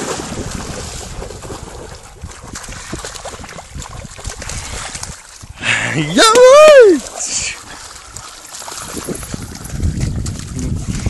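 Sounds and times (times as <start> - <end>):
low water splashes: 0.0 - 11.0
water trickling and sloshing: 0.0 - 11.0.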